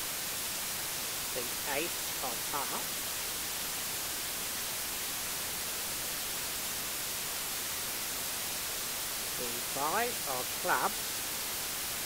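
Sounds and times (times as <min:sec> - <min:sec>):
white noise hiss: 0:00.0 - 0:12.0.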